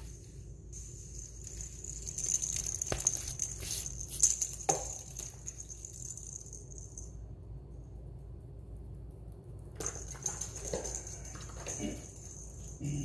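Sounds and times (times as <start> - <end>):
ball rolling on tile floor: 0.0 - 7.2, 9.6 - 13.0.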